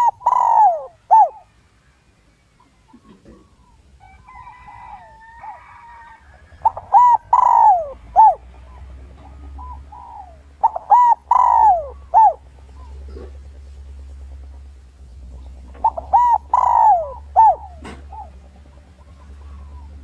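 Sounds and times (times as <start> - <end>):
dove cooing: 0.0 - 1.6, 2.6 - 20.0.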